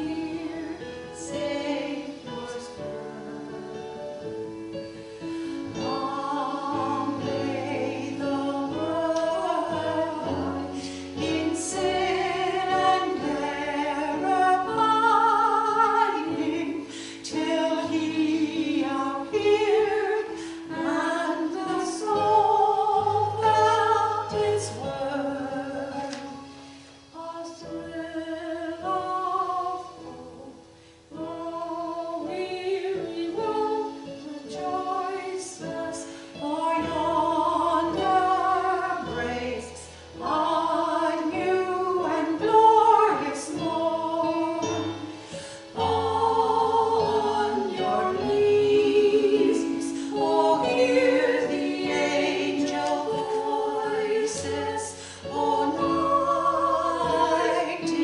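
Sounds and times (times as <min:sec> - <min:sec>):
keyboard accompaniment: 0:00.0 - 0:58.0
women singing a hymn: 0:00.0 - 0:58.0.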